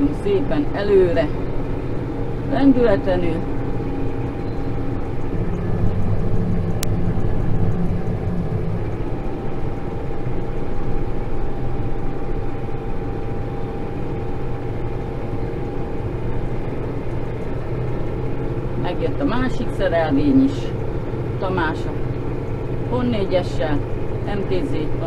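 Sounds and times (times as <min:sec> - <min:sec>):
thin steady whine: 0:00.0 - 0:25.0
tractor engine running: 0:00.0 - 0:25.0.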